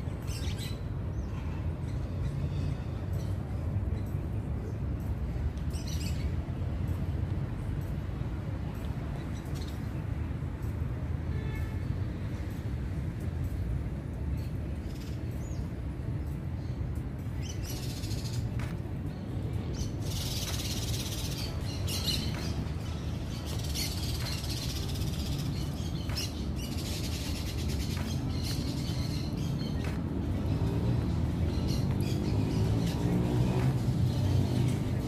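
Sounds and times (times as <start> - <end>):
birds chirping and chattering: 0.0 - 10.9, 12.5 - 35.0.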